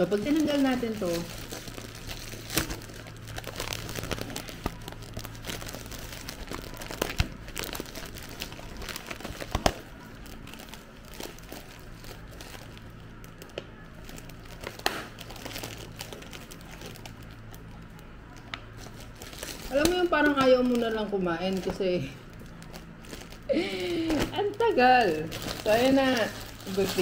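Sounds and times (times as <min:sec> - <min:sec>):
plastic bag crinkling: 0:00.0 - 0:27.0.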